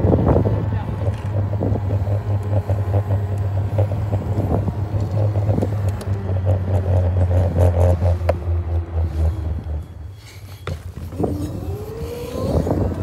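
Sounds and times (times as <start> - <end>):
tyre and wind noise: 0.0 - 13.0.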